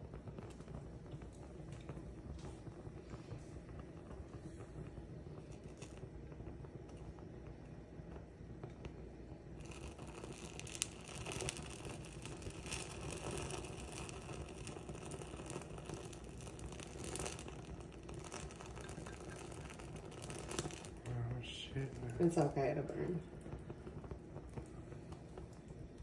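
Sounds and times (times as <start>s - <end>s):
paper burning crackle: 0.0s - 26.0s.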